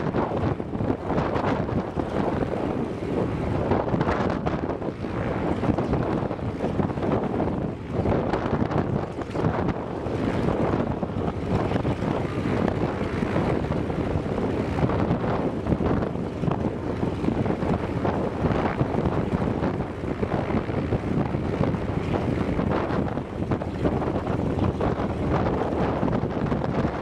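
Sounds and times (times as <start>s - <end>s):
radial aircraft engine running: 0.0s - 27.0s.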